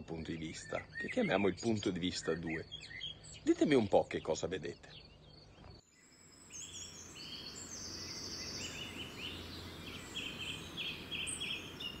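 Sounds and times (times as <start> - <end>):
small birds chirping and trilling: 0.0 - 12.0
steady outdoor hiss: 0.0 - 12.0.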